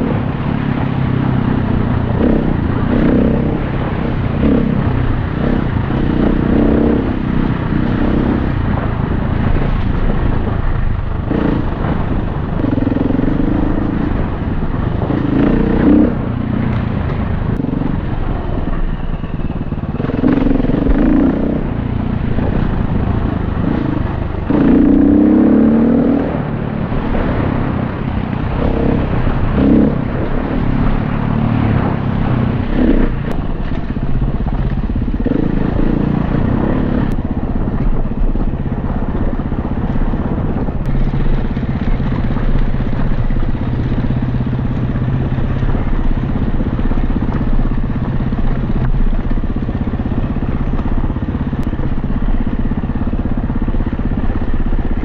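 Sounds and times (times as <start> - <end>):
dirt bike engine revving: 0.0 - 18.8, 19.4 - 55.0.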